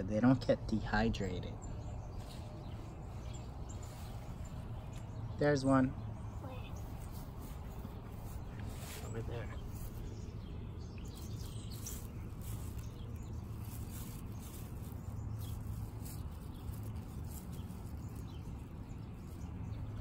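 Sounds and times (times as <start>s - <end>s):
steady low hum: 0.0s - 20.0s
rustling of grass: 1.6s - 20.0s.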